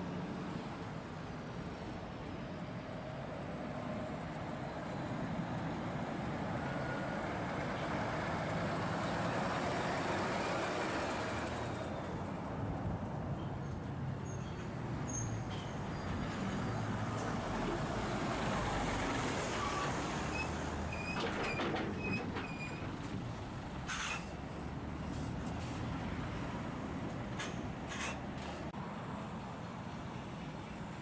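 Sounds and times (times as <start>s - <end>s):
heavy lorry passing: 0.0s - 31.0s.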